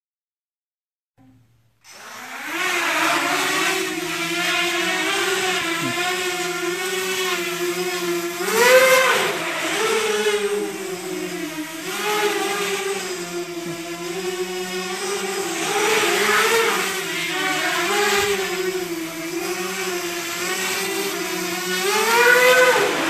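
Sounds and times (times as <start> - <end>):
drone motors whining: 1.9 - 23.0.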